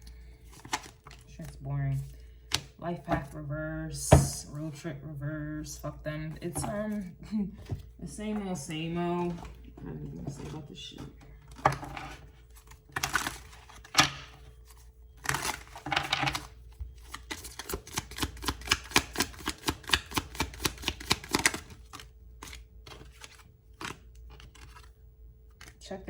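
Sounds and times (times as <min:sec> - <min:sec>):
cards rustling: 0:00.0 - 0:03.4, 0:06.3 - 0:25.8.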